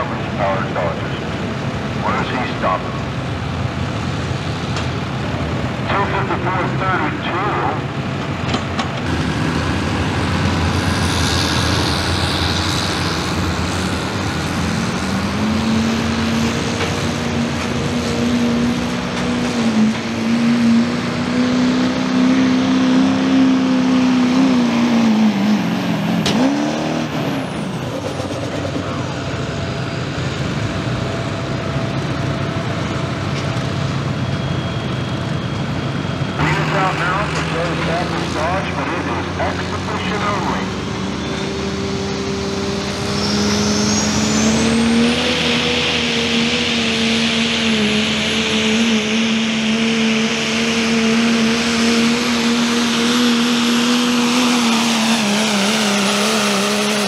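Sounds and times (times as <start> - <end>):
diesel truck engine at full throttle: 0.0 - 57.0.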